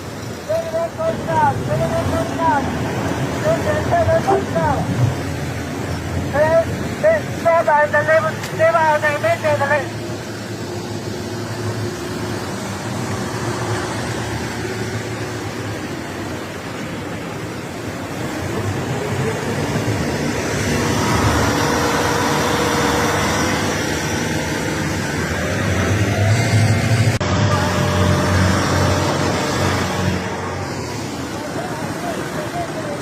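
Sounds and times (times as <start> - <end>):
boat engines running fast: 0.0 - 33.0
rush of wind and water: 0.0 - 33.0.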